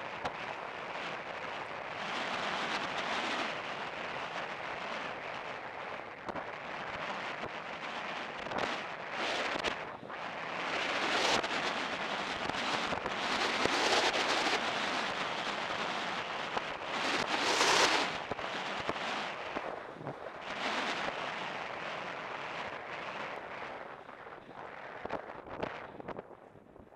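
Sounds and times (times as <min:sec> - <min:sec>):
wind rushing over microphone: 0:00.0 - 0:26.9.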